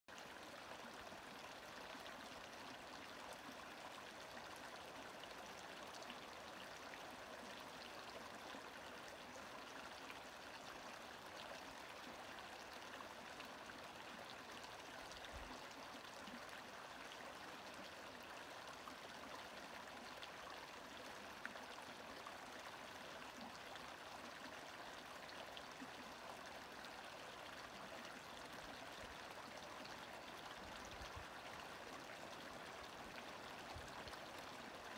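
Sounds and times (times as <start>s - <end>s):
creek flowing over rocks: 0.1s - 34.9s.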